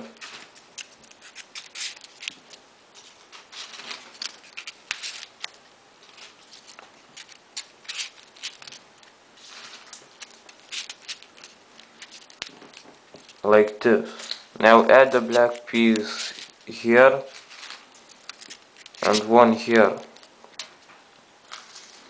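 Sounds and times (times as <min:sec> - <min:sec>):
paper rustling: 0:00.0 - 0:22.0
light crisp paper clicks: 0:00.1 - 0:08.8, 0:09.4 - 0:14.5, 0:15.2 - 0:19.4.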